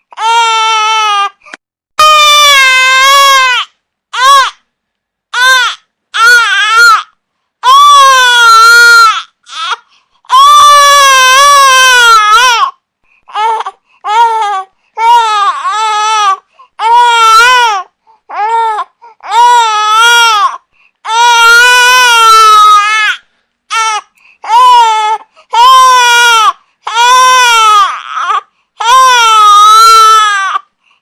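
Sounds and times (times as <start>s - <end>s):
infant crying: 0.1s - 1.4s, 2.0s - 4.6s, 5.4s - 30.7s.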